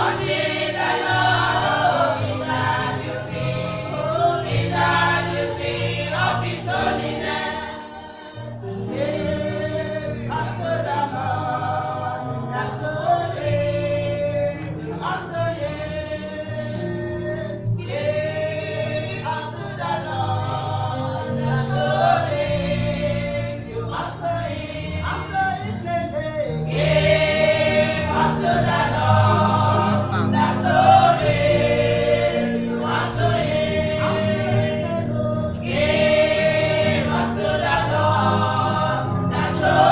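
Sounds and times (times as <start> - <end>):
choir singing gospel: 0.0 - 39.9
low musical accompaniment: 0.0 - 39.9.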